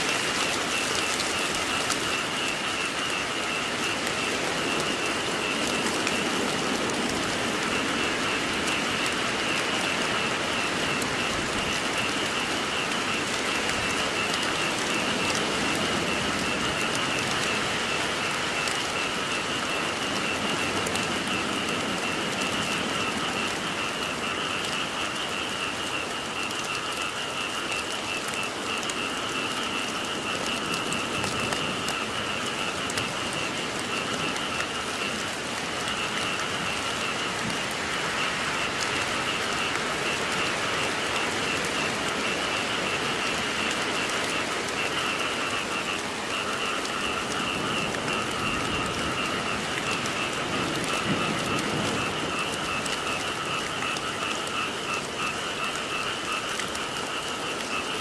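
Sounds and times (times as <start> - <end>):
frogs calling: 0.0 - 58.0
steady rain falling: 0.0 - 58.0.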